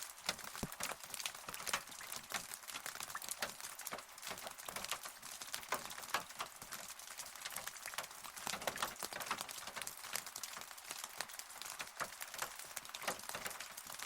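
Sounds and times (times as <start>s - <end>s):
raindrops ticking: 0.0s - 14.0s.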